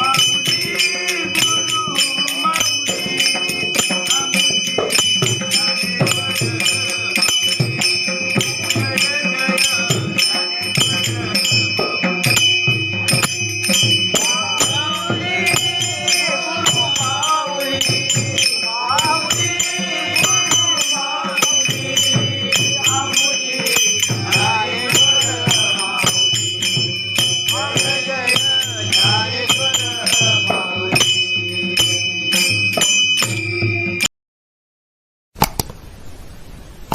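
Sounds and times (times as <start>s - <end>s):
person singing devotional song: 0.0s - 32.6s
metal jingles striking a beat: 0.0s - 34.1s.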